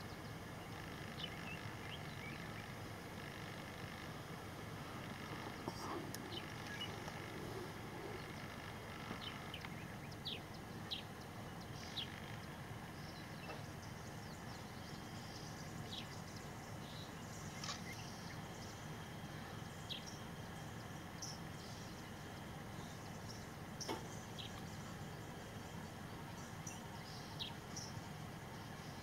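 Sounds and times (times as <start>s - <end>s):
soft steady wilderness ambience: 0.0s - 29.0s.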